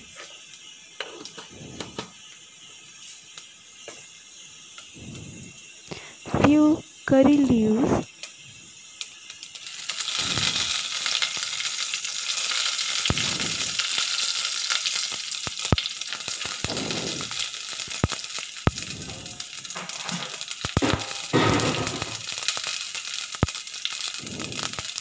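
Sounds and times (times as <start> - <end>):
seeds sizzling in hot oil: 0.0 - 25.0.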